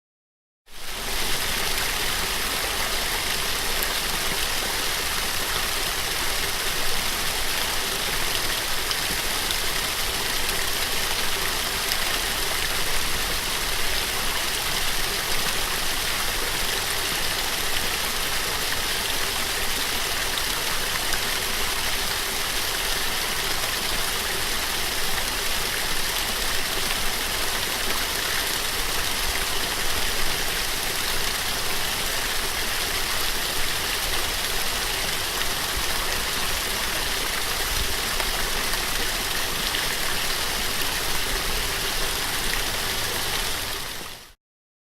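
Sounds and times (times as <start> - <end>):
small waterfall splashing: 0.7 - 44.4.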